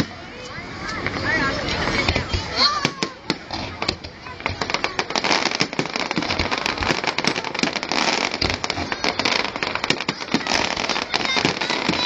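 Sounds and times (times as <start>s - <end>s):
fireworks crackling and popping: 0.0s - 12.0s
deep fireworks booms: 1.0s - 12.0s.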